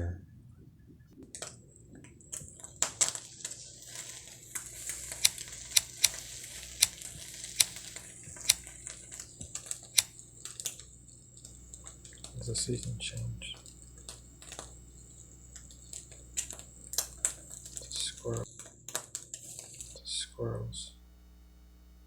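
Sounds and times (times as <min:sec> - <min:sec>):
close crunching with sharp clicks: 0:01.3 - 0:21.2.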